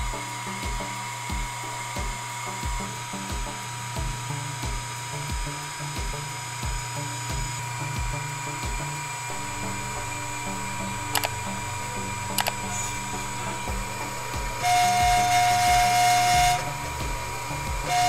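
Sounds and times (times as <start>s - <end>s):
background music with steady beat: 0.0s - 18.0s
high-pitched engraving spindle whine: 0.0s - 18.0s.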